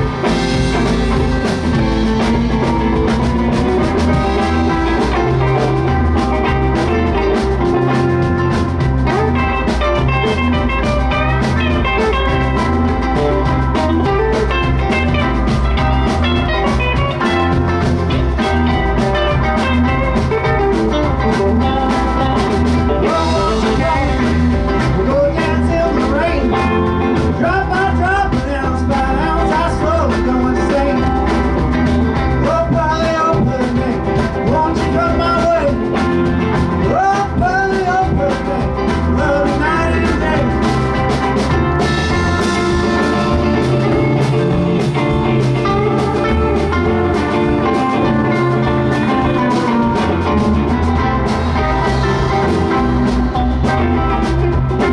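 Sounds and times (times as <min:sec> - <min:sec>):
bending lead guitar lines: 0:00.0 - 0:54.9
drums keeping a steady beat: 0:00.0 - 0:54.9
live rock band playing: 0:00.0 - 0:54.9.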